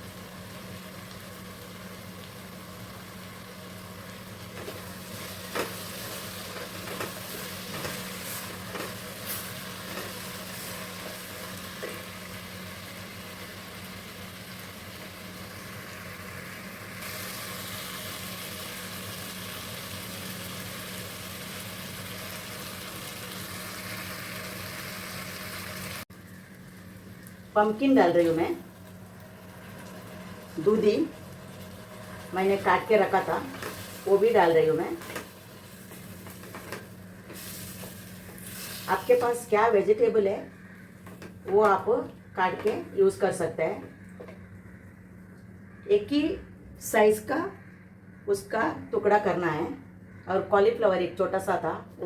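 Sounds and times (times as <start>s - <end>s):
vegetables sizzling in oil: 0.0s - 43.6s.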